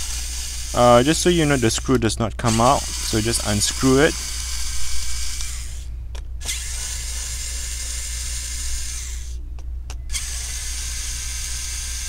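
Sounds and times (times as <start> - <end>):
electric screwdriver whirring: 0.0 - 9.4, 10.1 - 12.0.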